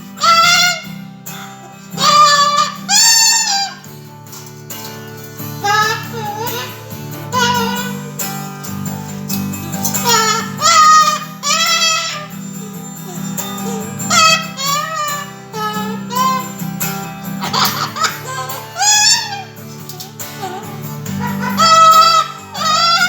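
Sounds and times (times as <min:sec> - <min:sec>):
cockatoo calling: 0:00.0 - 0:23.0
strummed acoustic guitar: 0:00.0 - 0:23.0.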